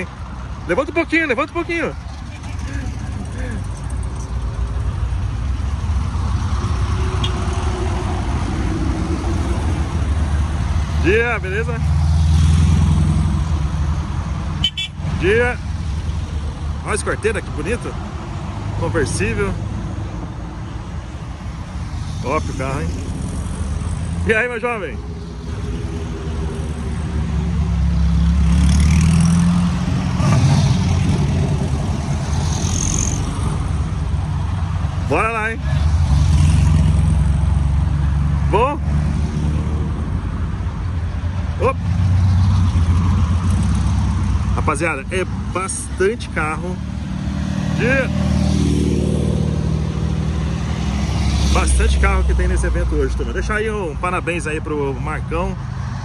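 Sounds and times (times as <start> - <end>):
car engines rumbling past: 0.0 - 56.0.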